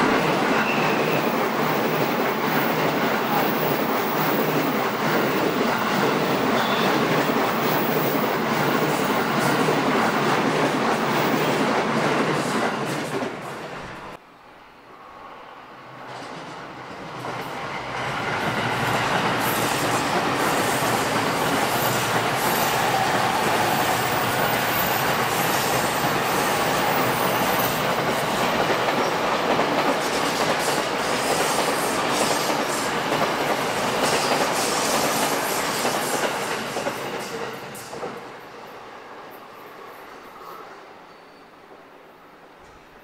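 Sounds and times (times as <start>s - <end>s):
train wheels rumbling on track: 0.0s - 14.2s, 15.8s - 40.7s.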